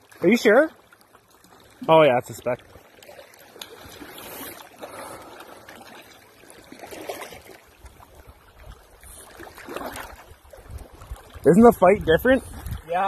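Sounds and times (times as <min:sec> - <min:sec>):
small waves lapping at shore: 0:00.0 - 0:13.0.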